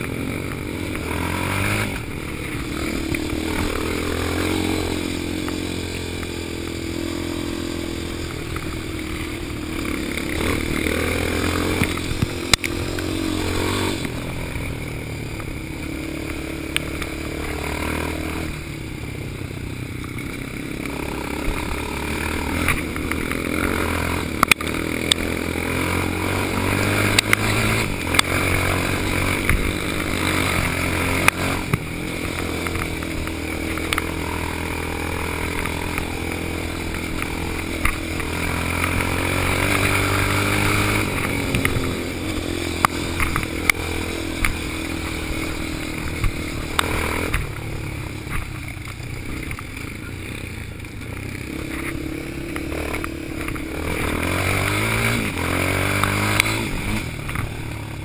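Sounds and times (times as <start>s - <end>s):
quad engine revving: 0.0s - 19.5s, 20.1s - 58.0s.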